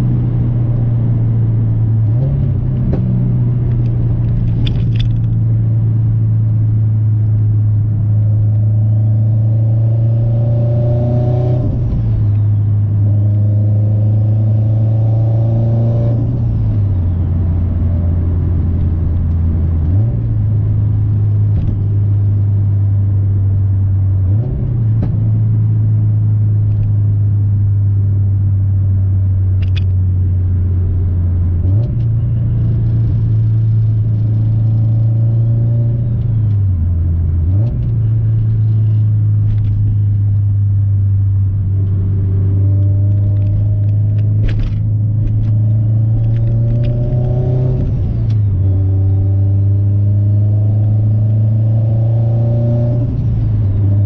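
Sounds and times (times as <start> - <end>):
car exhaust drone: 0.0 - 54.0.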